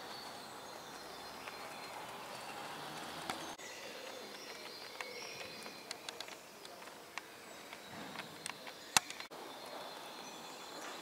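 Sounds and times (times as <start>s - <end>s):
sharp clicks: 0.0s - 9.3s
birds singing: 0.0s - 11.0s.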